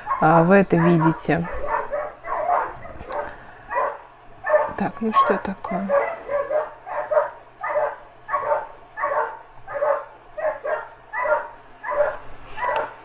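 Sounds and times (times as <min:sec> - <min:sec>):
dog barking: 0:00.0 - 0:13.0.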